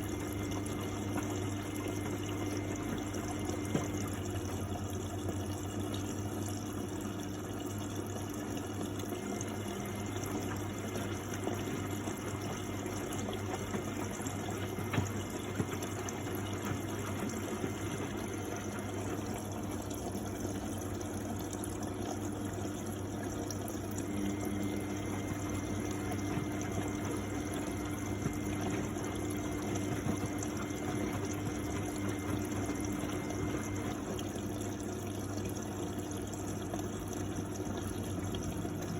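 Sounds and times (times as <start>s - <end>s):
low pump hum: 0.0s - 38.9s
water rushing in washing machine: 0.0s - 38.9s.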